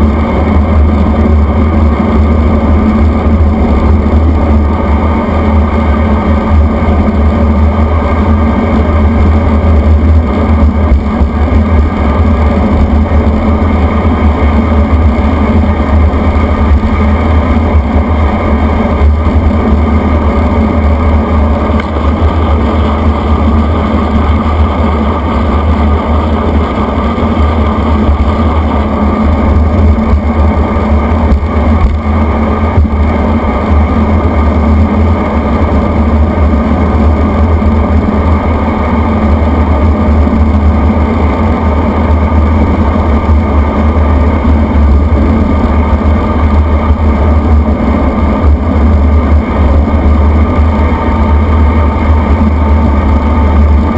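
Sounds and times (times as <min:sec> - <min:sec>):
wind rush on microphone: 0:00.0 - 0:53.9.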